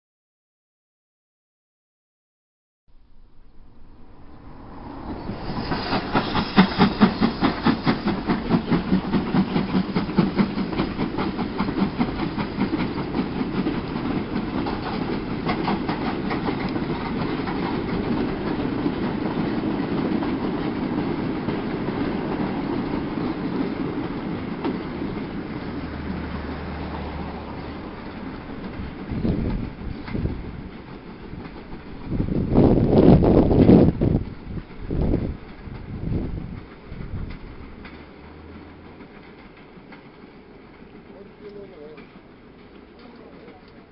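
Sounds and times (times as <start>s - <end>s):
steam locomotive exhaust beats: 3.3s - 43.9s
goods wagons rumbling and clattering: 4.7s - 43.9s.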